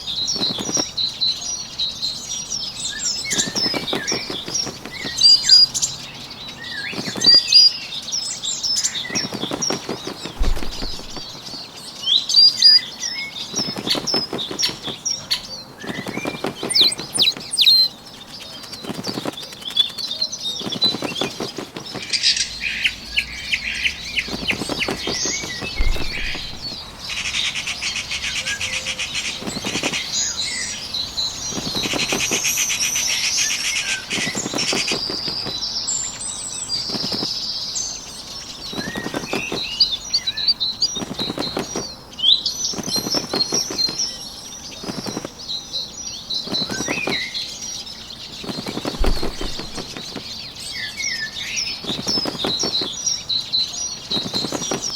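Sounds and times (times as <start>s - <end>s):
songbirds chirping and trilling: 0.0s - 54.9s
bird wings fluttering: 0.1s - 1.1s, 3.0s - 6.0s, 6.7s - 7.7s, 8.7s - 11.7s, 13.1s - 27.2s, 28.3s - 45.6s, 46.4s - 47.5s, 48.2s - 54.9s.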